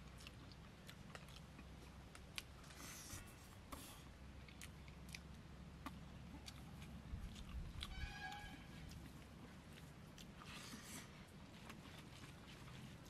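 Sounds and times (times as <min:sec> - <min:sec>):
low steady hum: 0:00.0 - 0:13.0
soft clicks and crackles of eating: 0:00.0 - 0:13.0.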